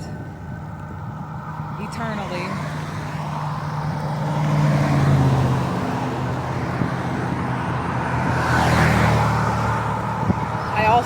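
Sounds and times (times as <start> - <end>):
road traffic rumble: 0.0 - 11.0
vehicle passing: 0.0 - 11.0.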